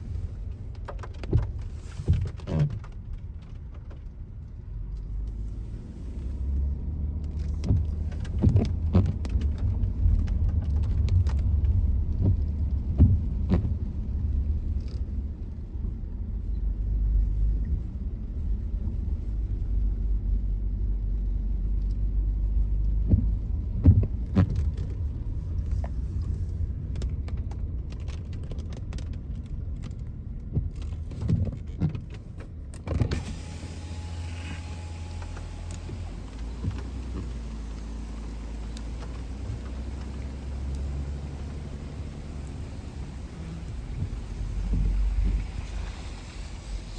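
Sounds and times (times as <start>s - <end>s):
car road and engine rumble: 0.0s - 46.9s.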